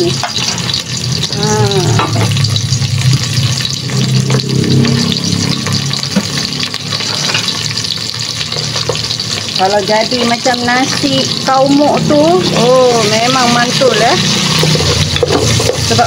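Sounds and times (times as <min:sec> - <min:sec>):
aromatics sizzling in oil: 0:00.0 - 0:16.0.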